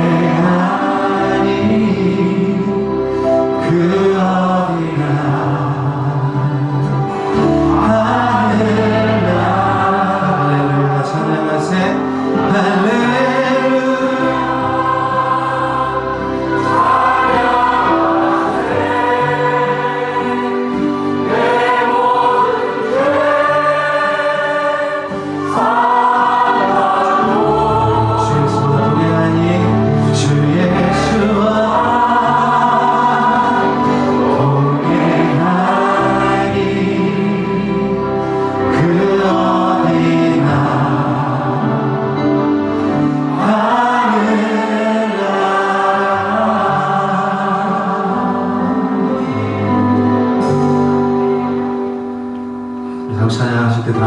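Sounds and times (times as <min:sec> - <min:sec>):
group singing worship song: 0:00.0 - 0:54.0
sustained instrumental accompaniment: 0:00.0 - 0:54.0.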